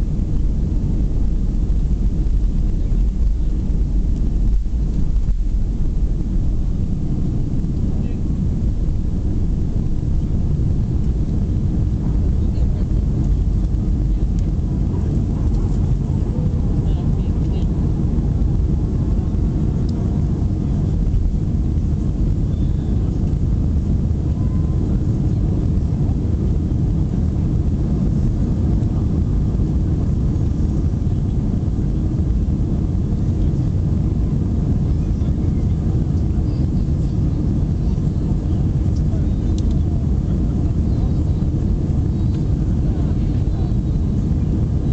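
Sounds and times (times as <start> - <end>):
airplane engines rumbling: 0.0 - 44.9.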